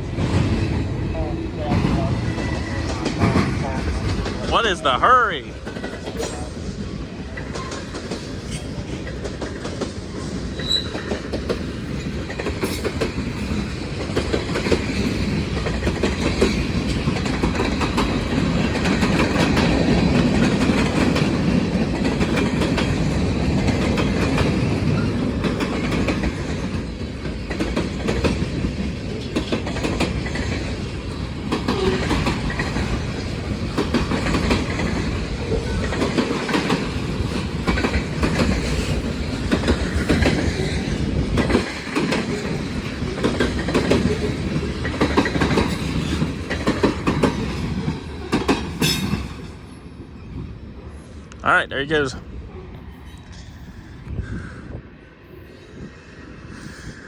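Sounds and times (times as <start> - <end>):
freight train wheels clicking over rail joints: 0.0 - 50.2.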